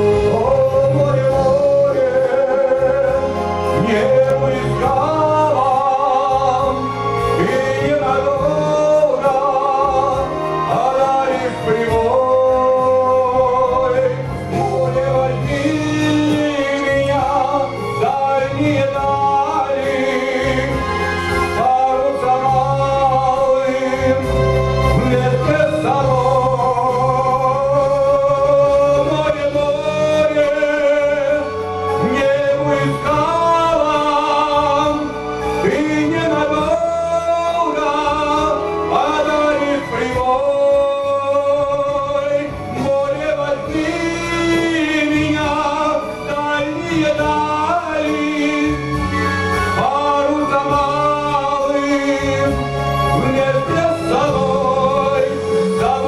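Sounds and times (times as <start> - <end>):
instrumental accompaniment with bass: 0.0 - 56.0
man singing into microphone: 0.0 - 56.0.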